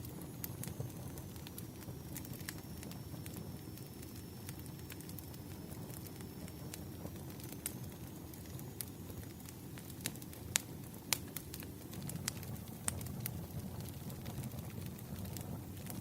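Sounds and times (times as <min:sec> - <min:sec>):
low rumble of flames: 0:00.0 - 0:16.0
wood fire popping and snapping: 0:00.0 - 0:16.0.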